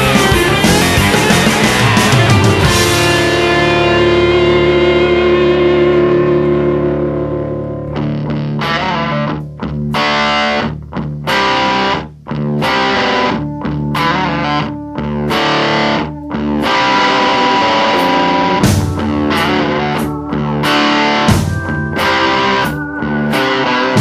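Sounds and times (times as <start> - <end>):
rock music with distorted guitar: 0.0 - 24.0.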